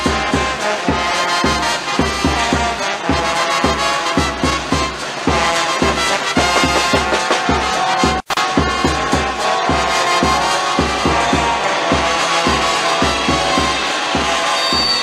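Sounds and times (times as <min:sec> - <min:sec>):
brass band music: 0:00.0 - 0:15.0
steady drum beat: 0:00.0 - 0:15.0.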